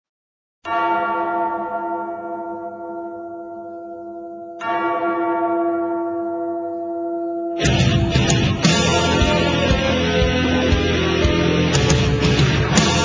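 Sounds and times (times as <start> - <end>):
large bell tolling: 0.7 - 13.0.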